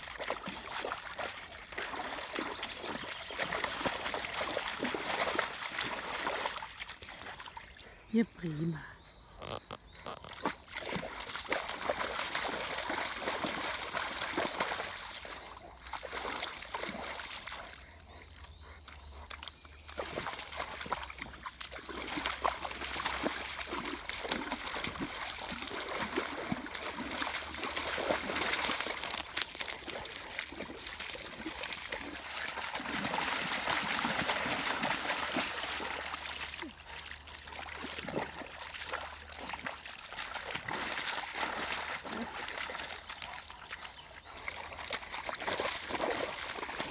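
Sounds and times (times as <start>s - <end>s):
dog splashing in muddy puddle: 0.0s - 8.1s, 9.4s - 46.9s.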